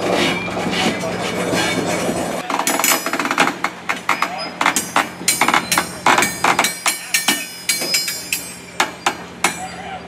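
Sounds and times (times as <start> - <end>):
train wheels clanking over rail joints: 0.0 - 10.0.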